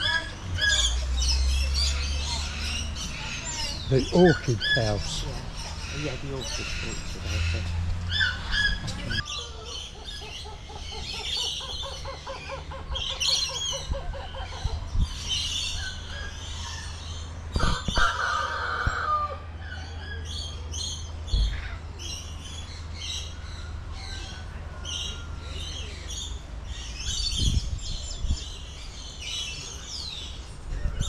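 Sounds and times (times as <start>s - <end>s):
birds calling and chirping: 0.0s - 31.0s.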